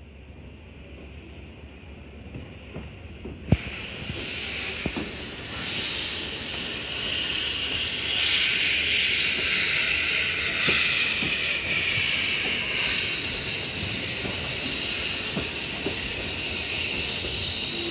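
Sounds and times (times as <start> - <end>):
steam hissing: 2.8 - 17.9.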